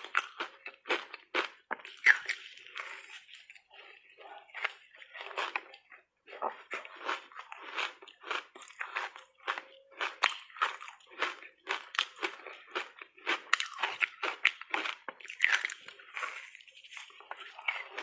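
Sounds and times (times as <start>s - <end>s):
ice crunching while chewed: 0.0s - 18.0s.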